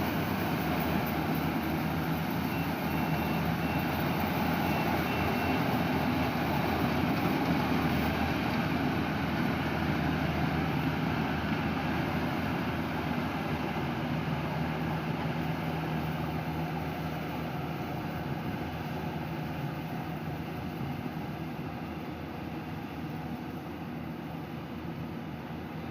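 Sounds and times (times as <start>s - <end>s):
harvesting machine engine humming: 0.0s - 25.9s.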